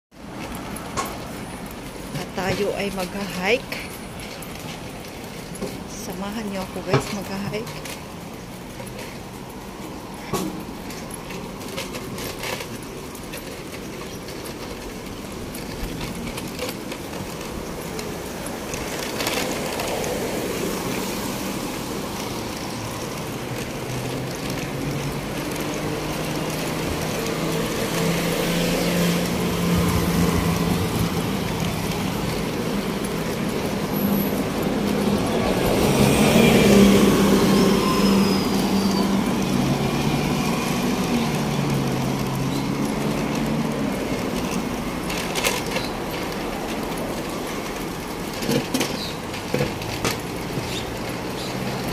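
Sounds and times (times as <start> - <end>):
road traffic passing: 0.1 - 51.9
vehicle engine hum: 0.1 - 51.9.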